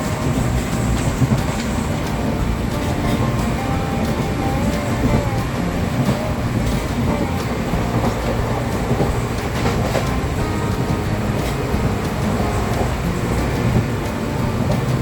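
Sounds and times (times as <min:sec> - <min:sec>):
train rumble and rattle: 0:00.0 - 0:15.0.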